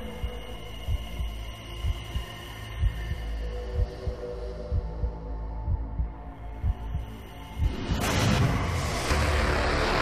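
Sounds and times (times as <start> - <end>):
low heartbeat-like thump: 0.2 - 8.7.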